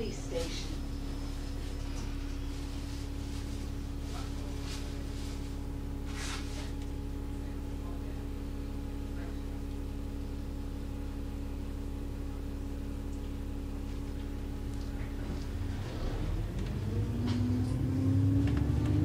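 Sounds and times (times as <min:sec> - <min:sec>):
bus engine idling: 0:00.0 - 0:18.3.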